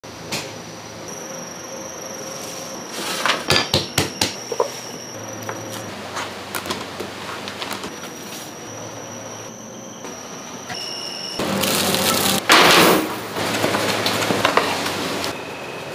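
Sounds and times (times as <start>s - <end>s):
kitchen equipment hum: 0.0s - 15.9s
high-pitched whine: 0.1s - 15.9s.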